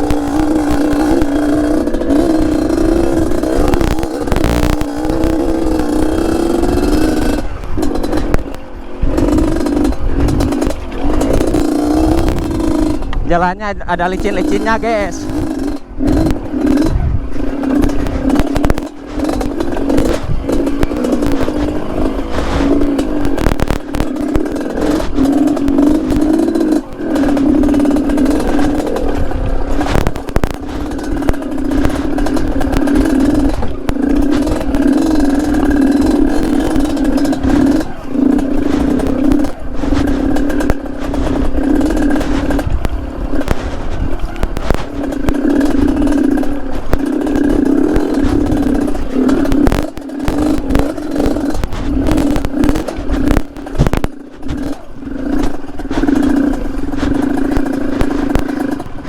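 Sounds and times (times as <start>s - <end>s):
clatter of bike and stones: 0.0s - 59.0s
two-stroke motorcycle engine: 0.0s - 59.0s.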